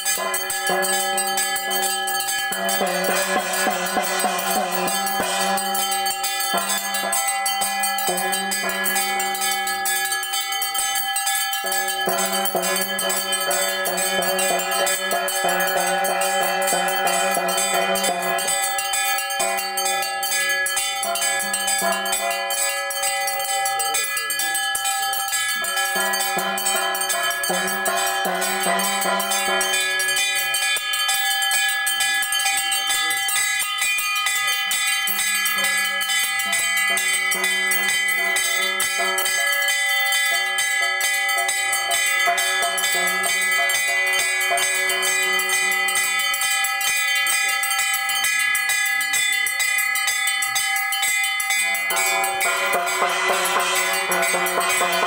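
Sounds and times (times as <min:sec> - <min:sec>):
bells ringing rapidly: 0:00.0 - 0:55.0.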